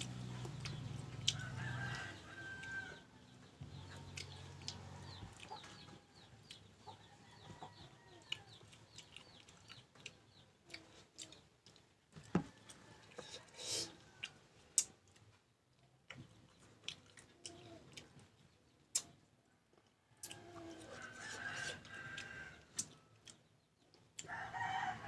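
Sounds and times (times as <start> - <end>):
mango being chewed: 0.0 - 2.9, 3.6 - 19.2, 19.8 - 24.4
chickens clucking faintly: 0.0 - 25.0.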